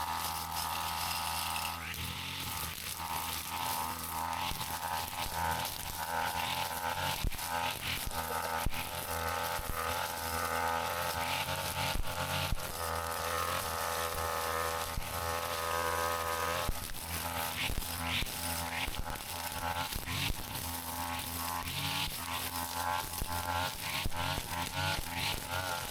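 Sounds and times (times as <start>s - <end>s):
brush cutter engine buzzing: 0.0s - 25.9s.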